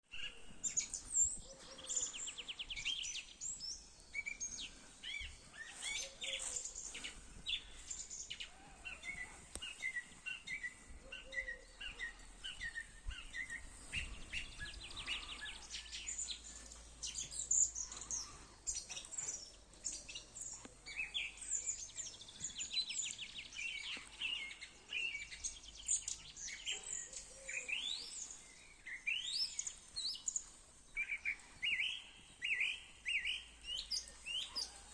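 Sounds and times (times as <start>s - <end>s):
songbirds chorus: 0.0s - 34.9s.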